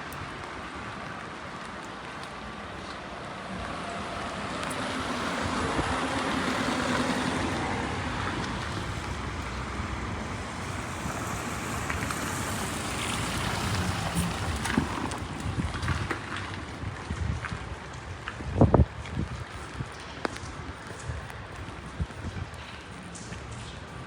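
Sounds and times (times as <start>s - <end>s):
rain falling: 0.0s - 21.6s
car passing on wet street: 0.0s - 24.0s.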